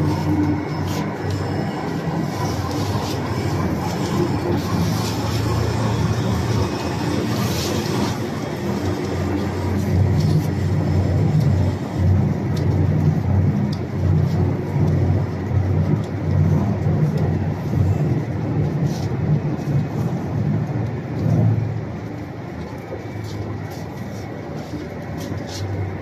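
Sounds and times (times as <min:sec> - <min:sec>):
feed mixer mechanical drone: 0:00.0 - 0:26.0.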